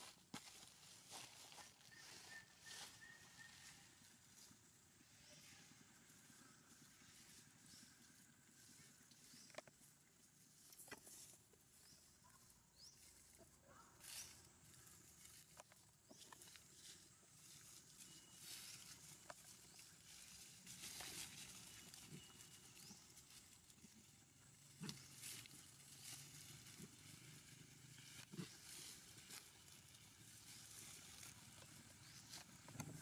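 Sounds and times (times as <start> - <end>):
rustling dry leaves underfoot: 0.0 - 33.0.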